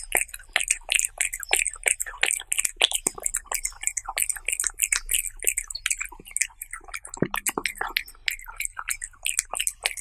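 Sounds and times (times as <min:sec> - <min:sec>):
cat licking and chewing: 0:00.0 - 0:10.0.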